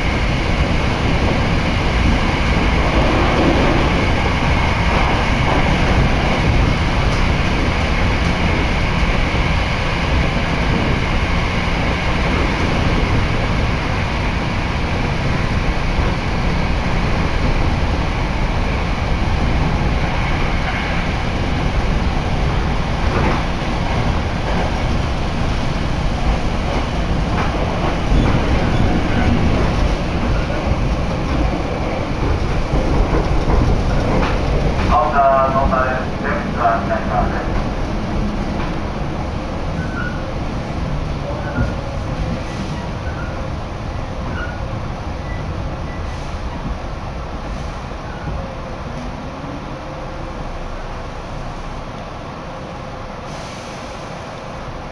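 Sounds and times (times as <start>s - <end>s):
train wheels rumbling on track: 0.0s - 54.9s.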